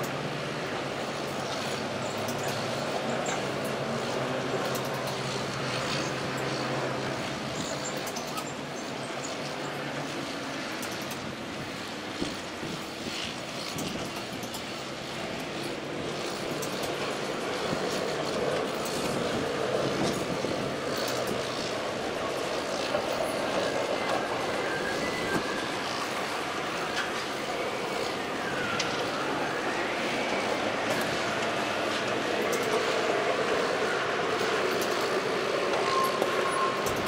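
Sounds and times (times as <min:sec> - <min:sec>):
heavy diesel machinery running: 0:00.0 - 0:37.0.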